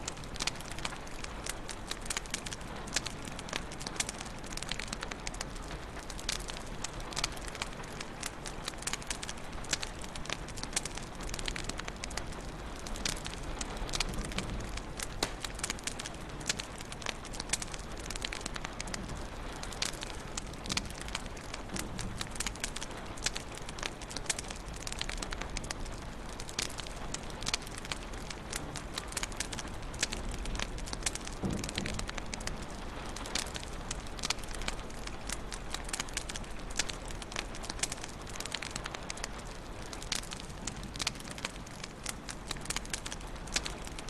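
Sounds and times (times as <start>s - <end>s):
fire hiss and low rumble: 0.0s - 44.0s
wood fire crackling: 0.0s - 44.0s.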